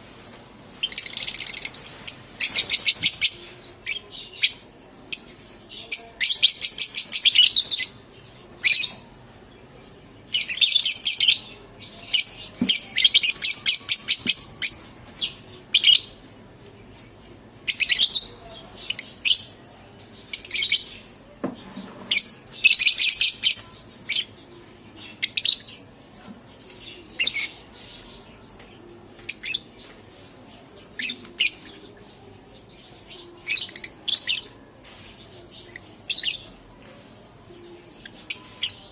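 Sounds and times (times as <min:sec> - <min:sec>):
lovebirds chattering: 0:00.7 - 0:38.9.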